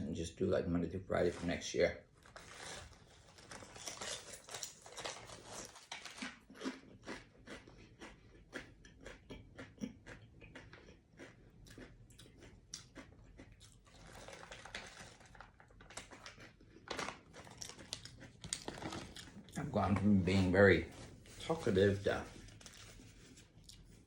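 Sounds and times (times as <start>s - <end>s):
person chewing crunchy snack: 2.3s - 20.0s, 22.0s - 24.0s.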